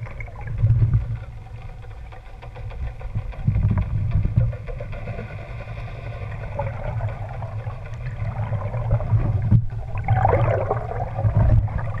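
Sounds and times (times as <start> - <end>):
muffled underwater water sloshing: 0.0 - 12.0.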